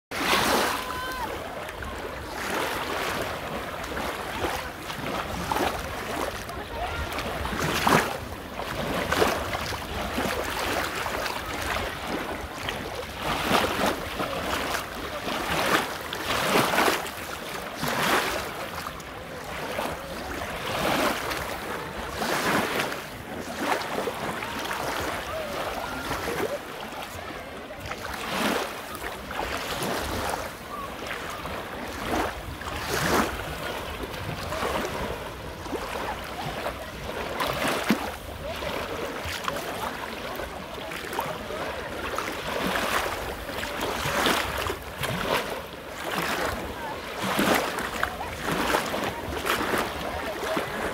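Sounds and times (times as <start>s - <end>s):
small waves washing over shells: 0.1s - 50.9s.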